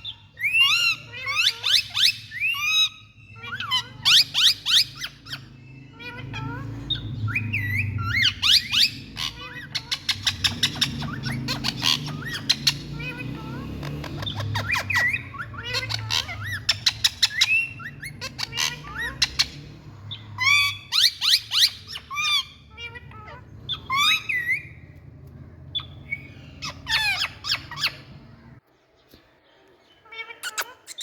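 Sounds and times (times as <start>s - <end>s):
parakeets squawking: 0.0s - 28.6s, 30.0s - 31.0s.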